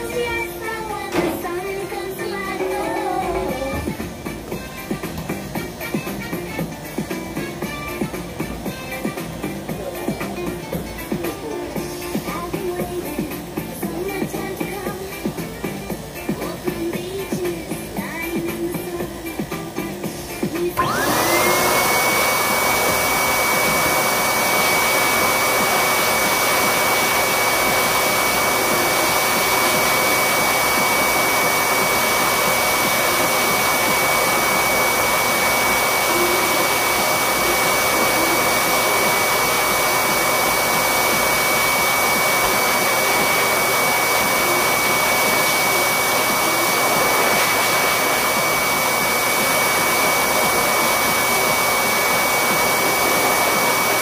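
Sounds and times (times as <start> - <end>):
electric clippers whirring: 0.0 - 12.4, 18.1 - 54.0.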